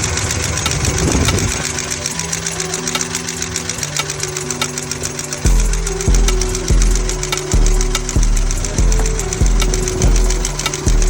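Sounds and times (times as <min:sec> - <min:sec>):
car engine running: 0:00.0 - 0:11.0
rapid valvetrain ticking: 0:00.0 - 0:11.0.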